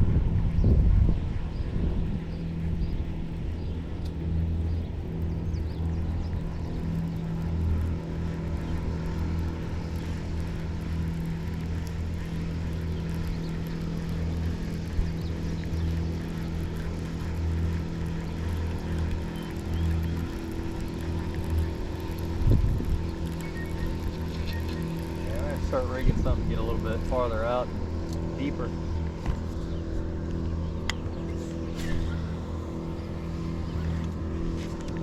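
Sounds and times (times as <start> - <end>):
engine droning hum: 0.0 - 35.0.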